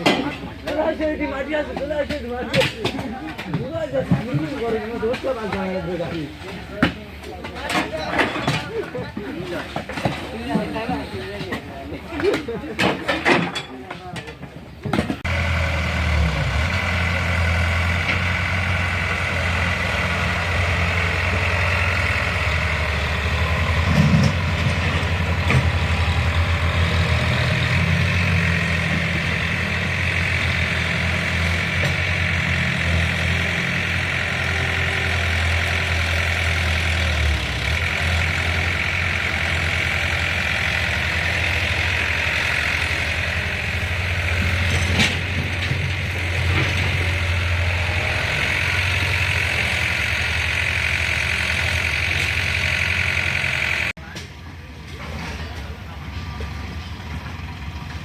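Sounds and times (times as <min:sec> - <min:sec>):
tractor engine running: 0:00.0 - 0:13.3, 0:14.2 - 0:58.0.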